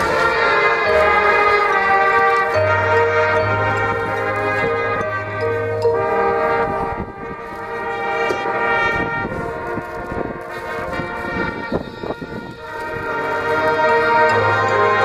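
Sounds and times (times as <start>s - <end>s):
brass chords: 0.0s - 15.0s.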